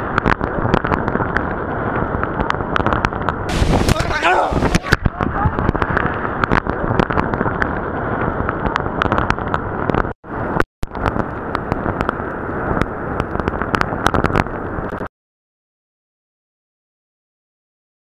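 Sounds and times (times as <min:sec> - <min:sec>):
wind blasting microphone: 0:00.0 - 0:15.1.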